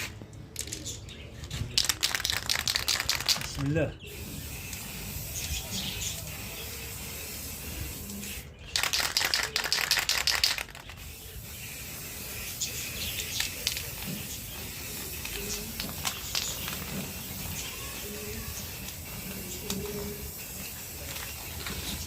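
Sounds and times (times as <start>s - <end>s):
spray paint can hissing: 1.7s - 22.0s.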